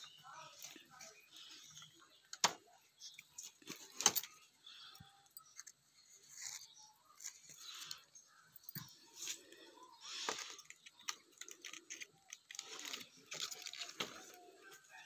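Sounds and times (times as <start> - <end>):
vines and leaves rustling: 0.0 - 5.0, 6.0 - 15.0.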